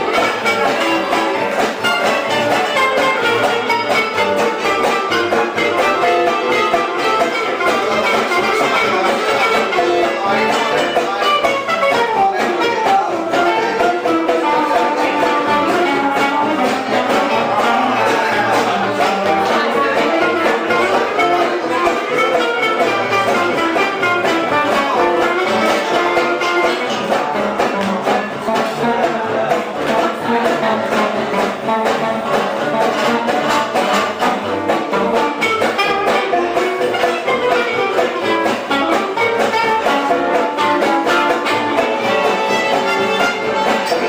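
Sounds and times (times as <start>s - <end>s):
live band playing: 0.0s - 44.0s.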